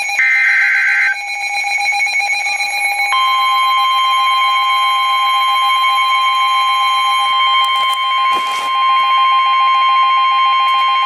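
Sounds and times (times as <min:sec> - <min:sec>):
pulsing beep: 0:00.0 - 0:11.0.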